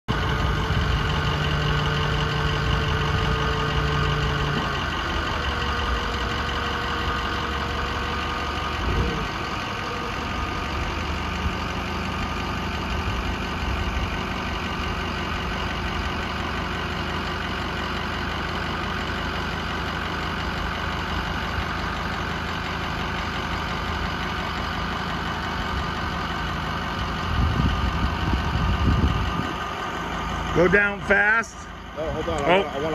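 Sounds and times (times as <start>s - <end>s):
truck engine idling: 0.0s - 32.9s.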